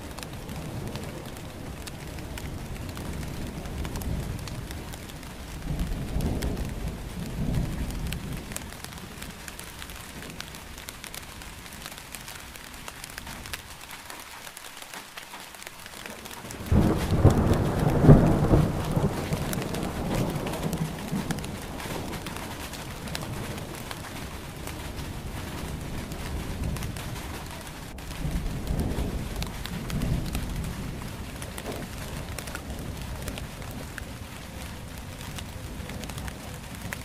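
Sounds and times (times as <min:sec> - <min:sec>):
loud thunderclap: 0:00.0 - 0:10.8, 0:16.2 - 0:37.0
low thunder rumbling: 0:00.0 - 0:13.8, 0:16.0 - 0:37.0
rain pattering: 0:00.0 - 0:37.0.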